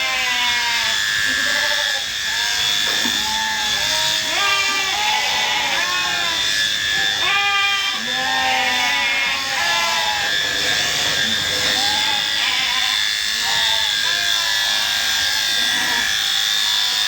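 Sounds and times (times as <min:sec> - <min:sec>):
electric clippers whining: 0:00.0 - 0:17.0
sheep bleating: 0:00.0 - 0:17.0.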